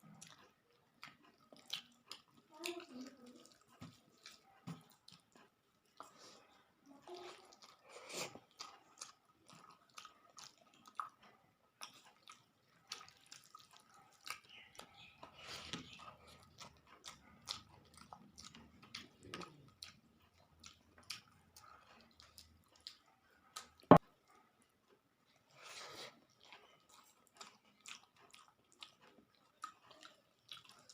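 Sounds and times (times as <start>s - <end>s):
wet chewing and lip-smacking: 0.0s - 30.9s.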